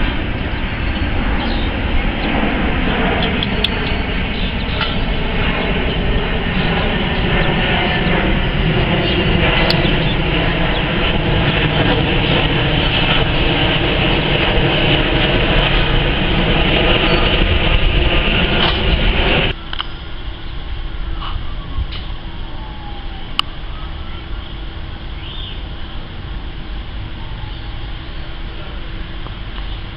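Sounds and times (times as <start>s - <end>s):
jet engines roaring: 0.0s - 29.9s.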